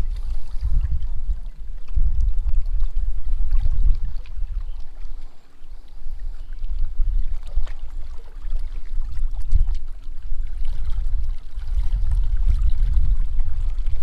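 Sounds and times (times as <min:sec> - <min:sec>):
waves lapping on rocks: 0:00.0 - 0:14.0
wind buffeting microphone: 0:00.0 - 0:14.0.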